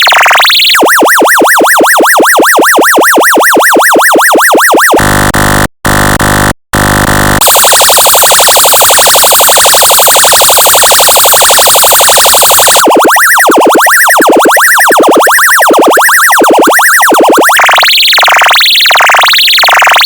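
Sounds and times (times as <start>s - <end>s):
electronic siren tones: 0.0s - 20.0s.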